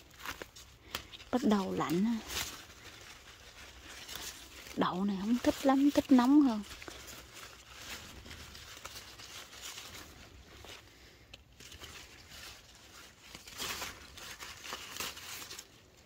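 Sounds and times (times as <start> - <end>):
vines and leaves rustling: 0.0 - 16.0.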